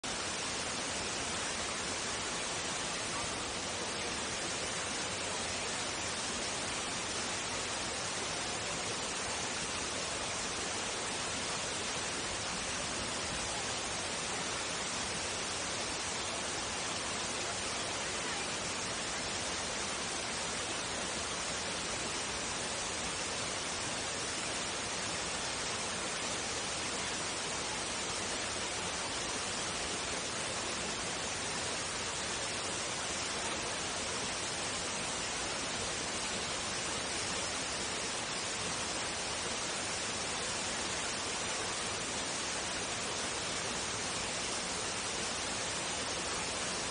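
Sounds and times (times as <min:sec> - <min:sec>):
waterfall and creek rushing: 0:00.0 - 0:46.9.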